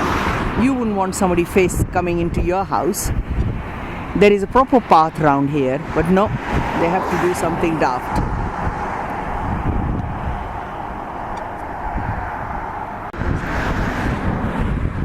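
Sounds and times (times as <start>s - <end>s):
background rumble: 0.0s - 15.0s
wind buffeting microphone: 0.0s - 15.0s.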